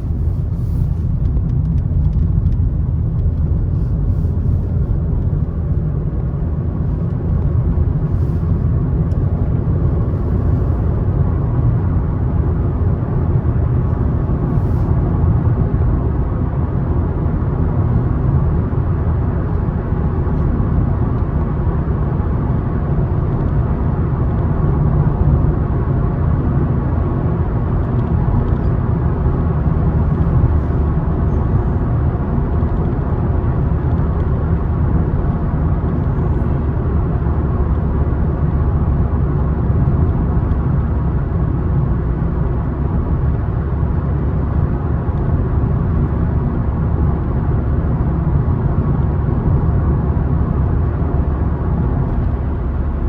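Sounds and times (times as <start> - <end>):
car engine running: 0.0 - 53.0
road and tyre drone: 0.0 - 53.0.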